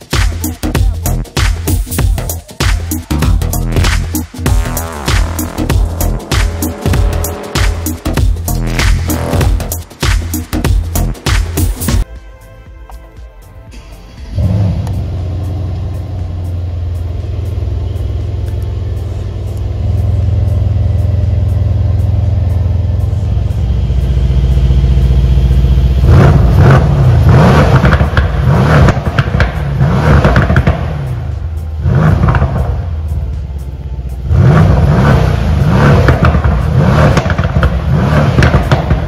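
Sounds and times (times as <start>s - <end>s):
car engine revving with exhaust pops: 0.0s - 12.0s, 14.3s - 39.0s.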